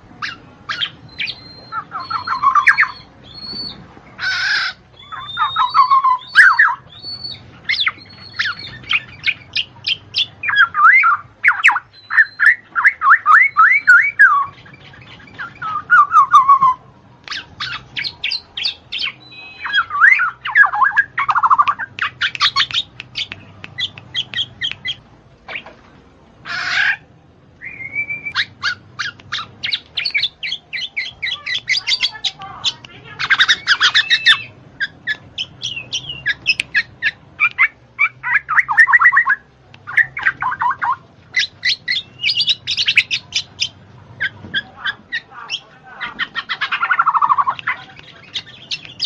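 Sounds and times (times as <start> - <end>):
bird chirps and squawks: 0.2 - 25.7, 26.4 - 49.0.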